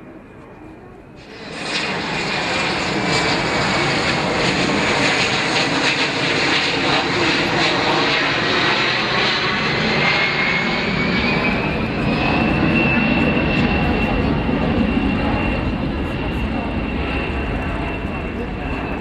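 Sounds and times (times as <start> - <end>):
jet engine noise: 0.0 - 19.0
high-pitched engine whine: 1.2 - 19.0.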